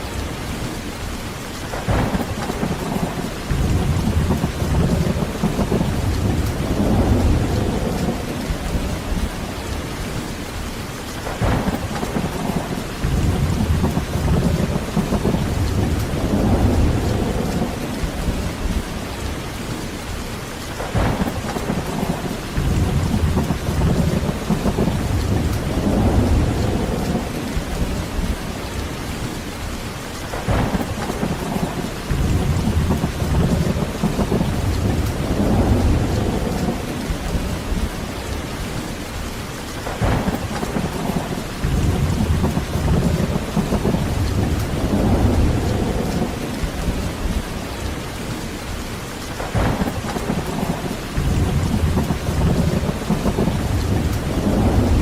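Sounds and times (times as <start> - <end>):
heavy rain falling: 0.0 - 55.0
rolling thunder: 1.7 - 9.8, 11.2 - 19.8, 20.8 - 29.3, 30.2 - 39.2, 39.8 - 48.4, 49.3 - 55.0.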